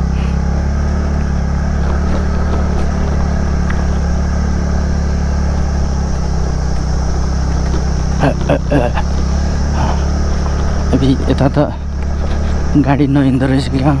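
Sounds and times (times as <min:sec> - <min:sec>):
road and wind noise: 0:00.0 - 0:14.0
scooter engine running: 0:00.0 - 0:14.0.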